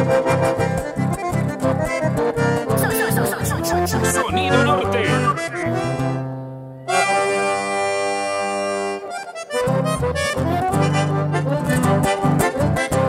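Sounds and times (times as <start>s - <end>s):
button accordion playing chords: 0.0s - 13.0s.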